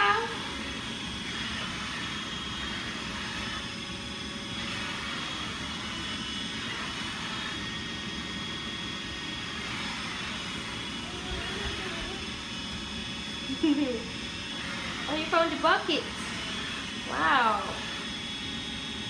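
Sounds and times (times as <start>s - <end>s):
robot vacuum whirring: 0.0s - 19.0s
thin high whine: 0.0s - 19.0s.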